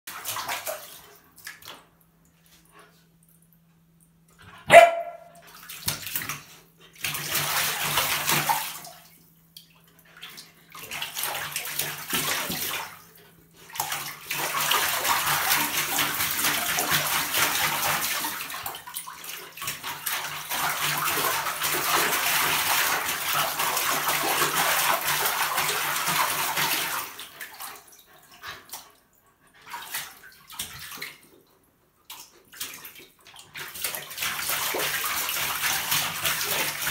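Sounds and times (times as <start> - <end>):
bathwater splashing: 0.1 - 2.9, 4.7 - 29.0, 29.6 - 31.4, 32.1 - 36.9.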